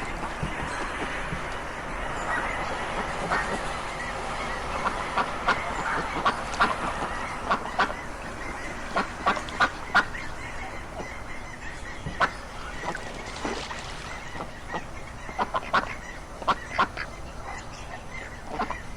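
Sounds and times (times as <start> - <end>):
ducks quacking: 0.0 - 18.9
steady background hiss: 0.0 - 18.9.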